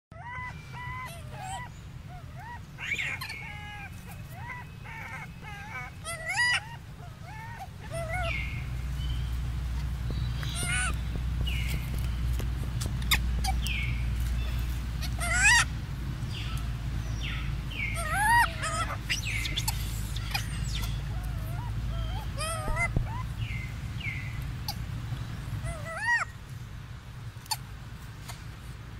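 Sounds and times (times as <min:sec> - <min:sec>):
baby monkey cooing and whimpering: 0:00.1 - 0:16.6, 0:17.2 - 0:26.4
steady low rumble: 0:00.5 - 0:28.9.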